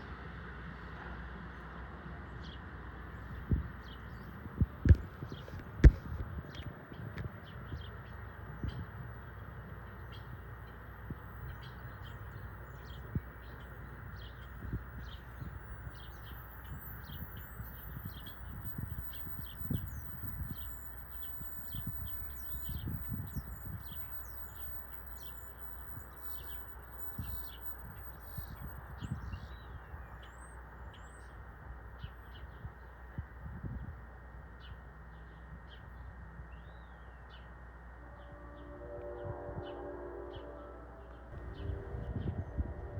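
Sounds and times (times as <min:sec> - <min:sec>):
wind gusting on microphone: 0:03.0 - 0:34.3, 0:38.1 - 0:42.9.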